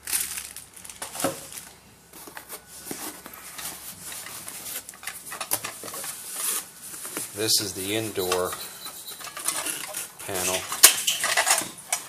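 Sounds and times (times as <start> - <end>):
packaging rustling: 0.0 - 11.6.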